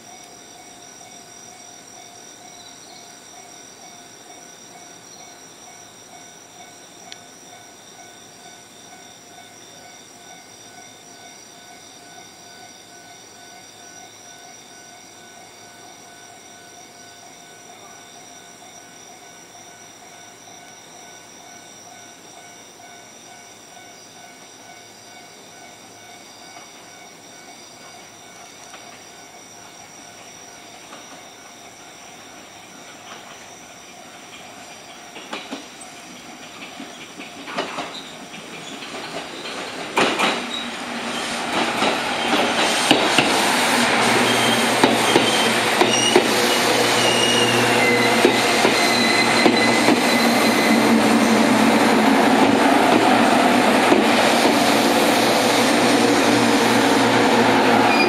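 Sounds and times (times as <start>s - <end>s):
electric train hum and hiss: 0.0s - 58.0s.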